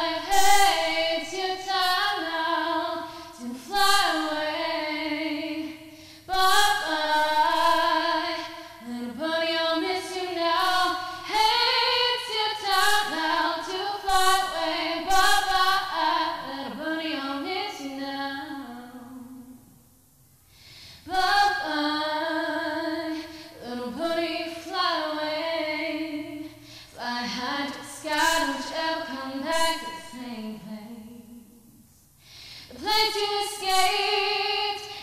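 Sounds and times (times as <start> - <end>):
woman singing unaccompanied: 0.0 - 19.7, 21.1 - 31.8, 32.7 - 35.0.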